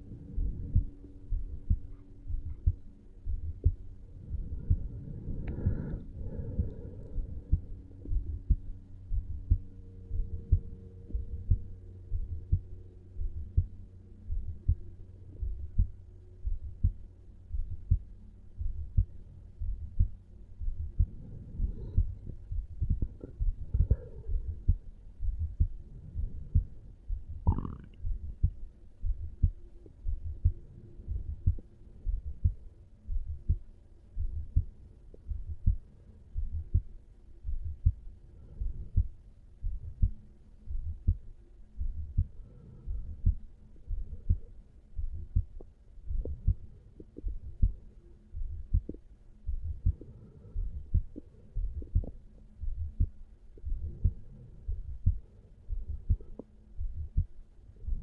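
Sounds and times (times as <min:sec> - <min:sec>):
faint hum: 0:00.0 - 0:58.0
heartbeat lub-dub: 0:00.0 - 0:58.0.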